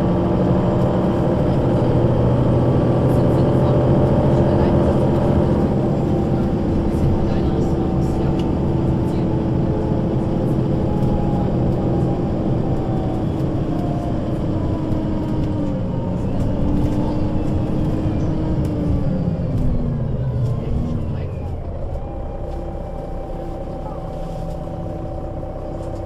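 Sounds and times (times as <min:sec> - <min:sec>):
bus engine droning with whine: 0:00.0 - 0:26.0.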